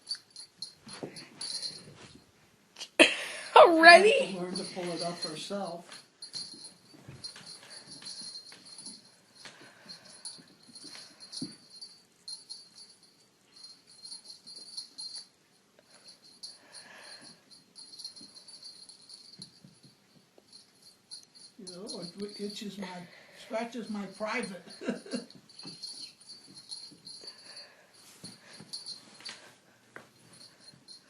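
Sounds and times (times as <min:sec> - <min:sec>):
high metallic jingling: 0:00.0 - 0:02.2, 0:03.0 - 0:31.0.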